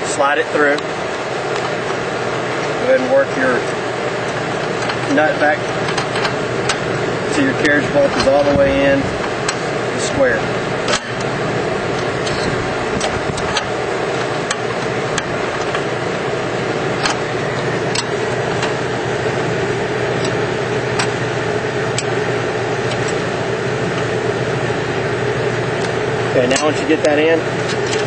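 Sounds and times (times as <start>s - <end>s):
machine engine drone: 0.0s - 28.0s.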